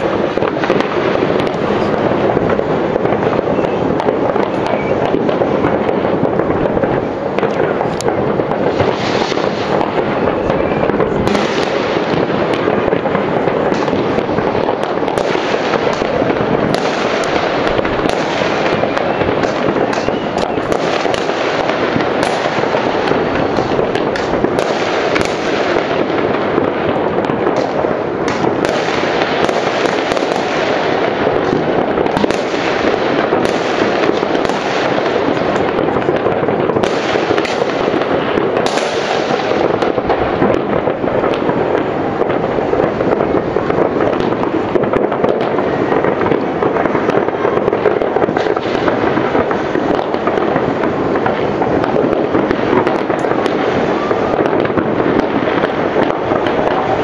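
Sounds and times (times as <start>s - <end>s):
fireworks and firecrackers banging: 0.0s - 57.0s.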